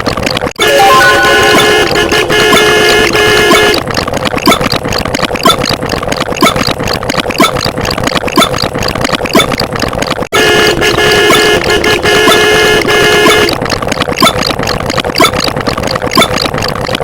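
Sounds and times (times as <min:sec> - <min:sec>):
engine-like rattling clatter: 0:00.0 - 0:00.6, 0:01.4 - 0:17.0.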